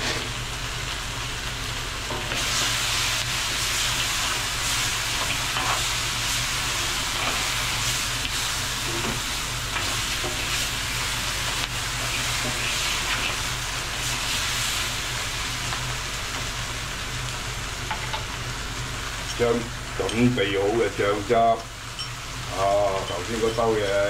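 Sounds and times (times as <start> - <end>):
food sizzling in a wok: 0.0 - 24.0.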